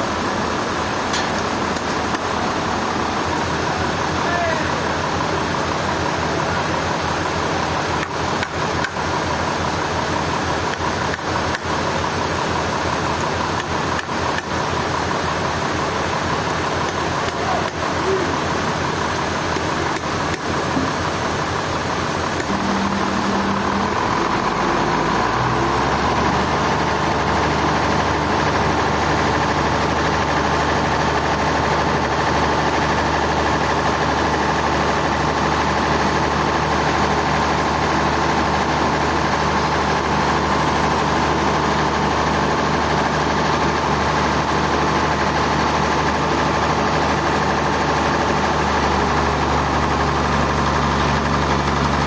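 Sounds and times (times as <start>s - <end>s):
sawmill engine humming: 0.0s - 52.0s.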